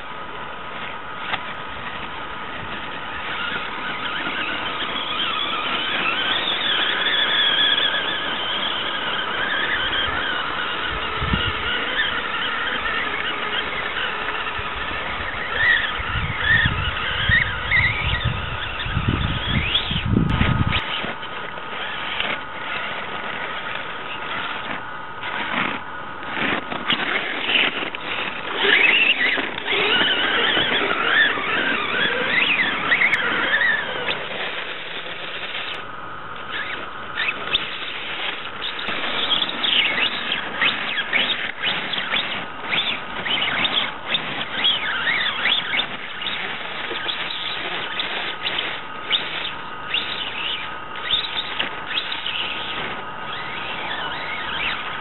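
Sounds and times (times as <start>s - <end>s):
electric motor and gears whining: 0.0s - 55.0s.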